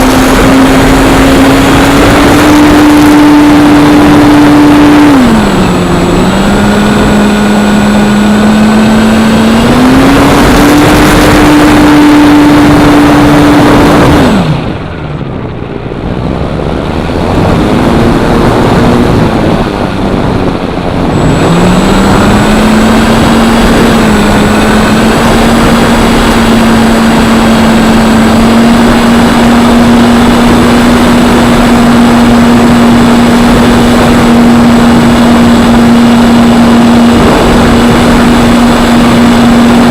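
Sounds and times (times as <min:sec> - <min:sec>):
model plane electric motor whine: 0:00.0 - 0:14.9, 0:17.0 - 0:39.9
wind noise: 0:00.0 - 0:39.9.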